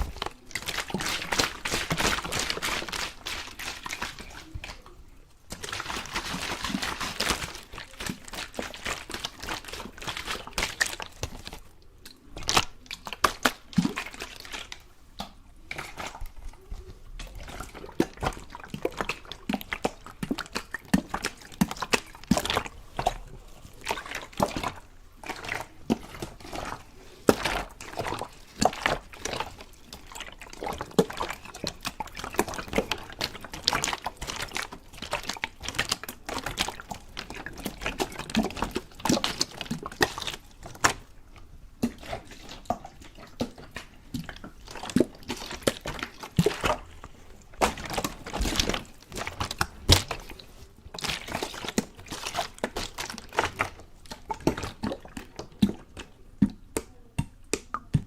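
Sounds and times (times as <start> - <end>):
water pouring and splashing: 0.0 - 11.7, 15.6 - 56.6.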